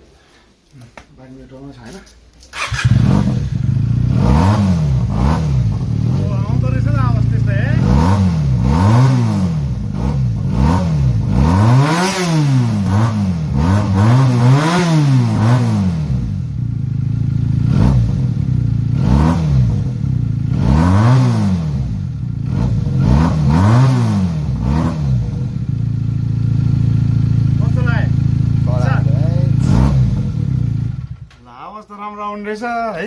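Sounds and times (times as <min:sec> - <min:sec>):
motorcycle engine revving: 0:02.5 - 0:31.4.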